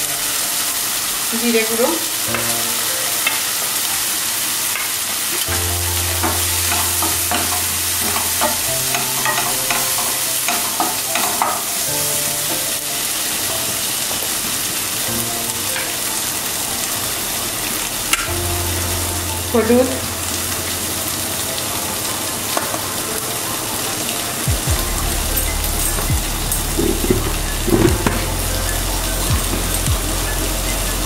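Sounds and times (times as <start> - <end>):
spices frying in a pan: 0.0 - 31.0.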